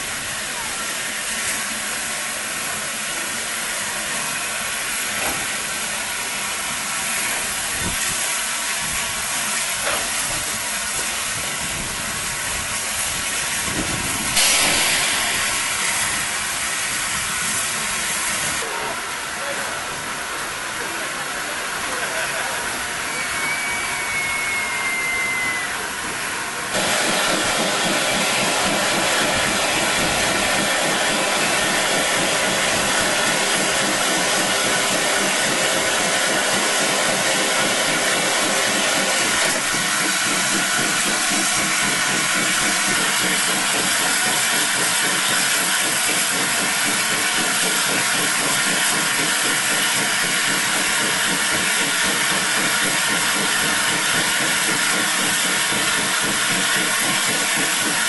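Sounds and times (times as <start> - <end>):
steam hissing from locomotive: 0.0 - 58.0.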